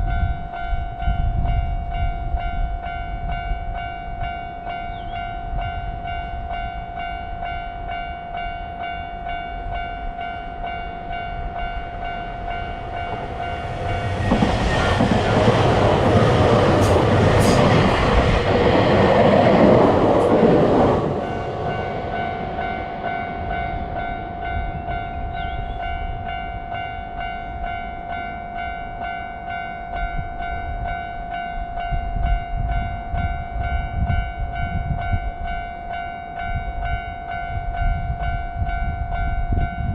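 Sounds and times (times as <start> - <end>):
level crossing warning bell: 0.0 - 39.9
train passing: 0.0 - 39.9.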